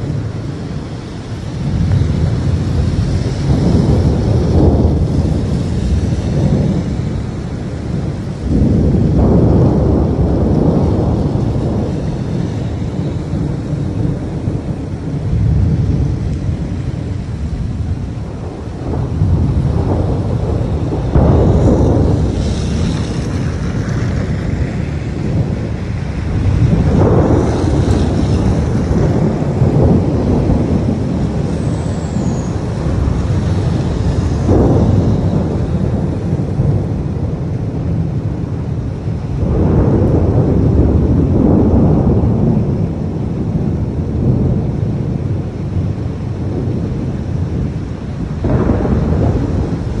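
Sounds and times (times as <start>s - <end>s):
thunder rumbling: 0.0s - 50.0s.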